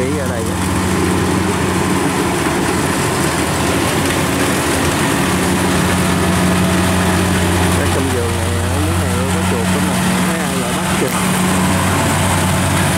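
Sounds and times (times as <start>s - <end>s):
diesel engine hum: 0.0s - 12.9s
threshing machinery rushing: 0.0s - 12.9s.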